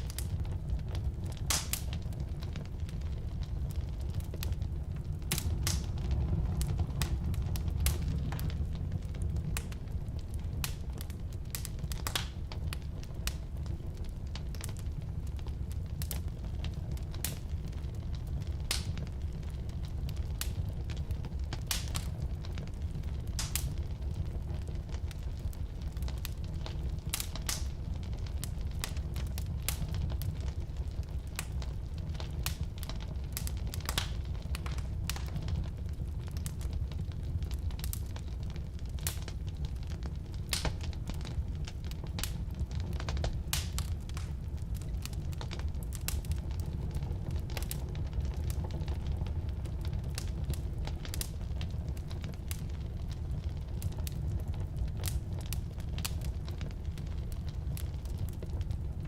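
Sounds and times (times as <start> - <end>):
fire rumbling in fireplace: 0.0 - 59.0
firewood crackling and popping: 0.0 - 59.0.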